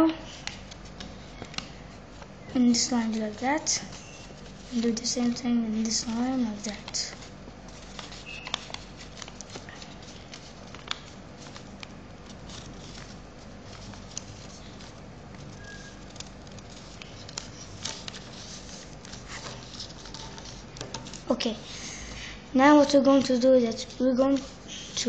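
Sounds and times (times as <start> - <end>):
paper crinkling: 0.2 - 25.0.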